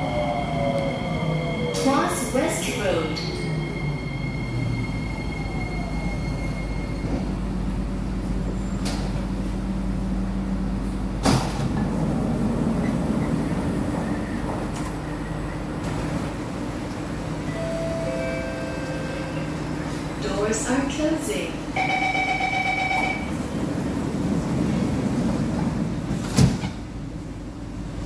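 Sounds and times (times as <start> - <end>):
train running noise: 0.0 - 28.0
train doors sliding open: 0.1 - 20.8, 22.7 - 28.0.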